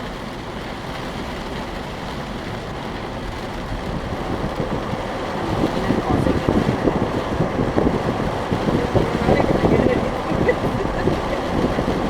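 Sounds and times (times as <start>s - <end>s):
rain on car body and glass: 0.0s - 12.0s
tyres on wet road: 0.0s - 12.0s.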